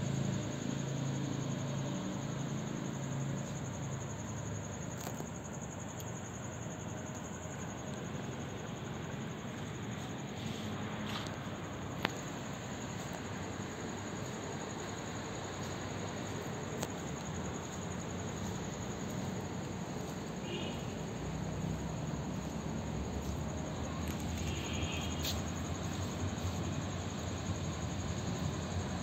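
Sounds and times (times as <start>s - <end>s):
crickets trilling: 0.0s - 29.0s
outdoor ambient hiss: 0.0s - 29.0s.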